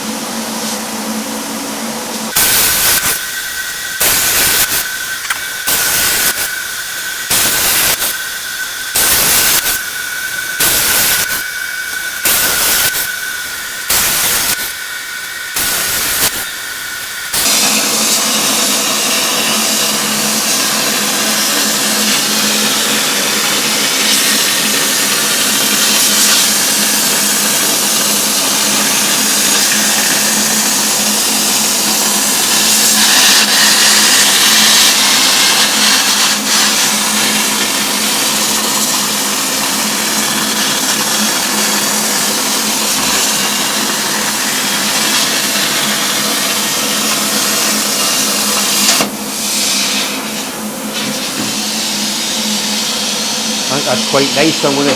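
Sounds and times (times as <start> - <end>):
even hum: 0.0 - 54.9
plasma cutter hissing: 2.3 - 54.9.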